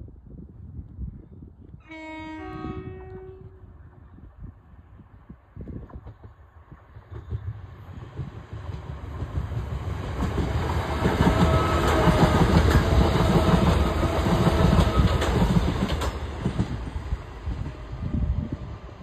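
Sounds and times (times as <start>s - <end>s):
train passing by: 1.9s - 19.0s.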